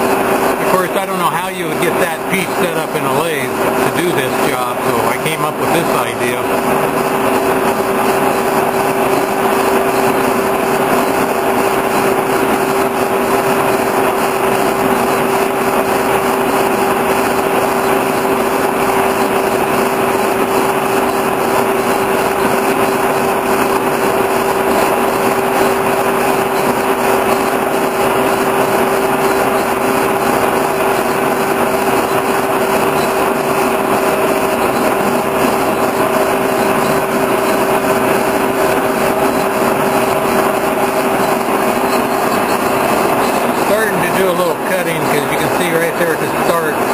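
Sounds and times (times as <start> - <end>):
boring mill running: 0.0 - 46.9.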